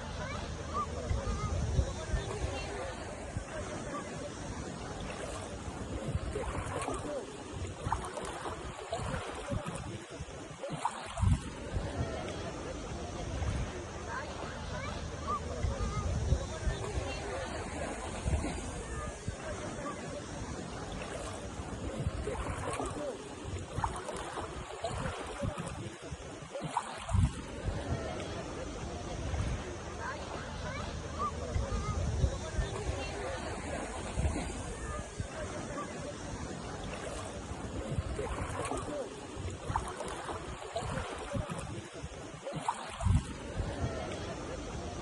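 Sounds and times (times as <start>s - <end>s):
faint distant voices: 0.0s - 45.0s
sea water lapping: 0.0s - 45.0s
wind buffeting microphone: 0.2s - 44.2s.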